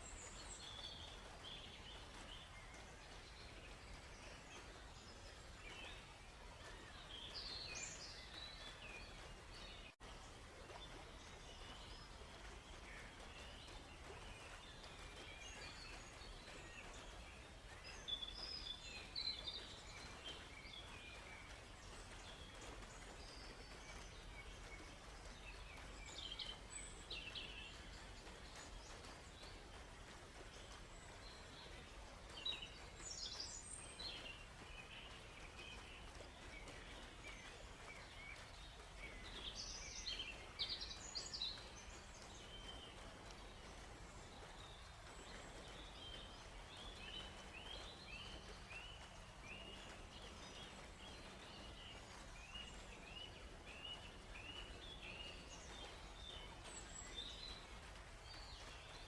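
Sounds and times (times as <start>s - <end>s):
faint forest ambience hiss: 0.0s - 59.0s
songbirds chirping: 0.0s - 59.0s.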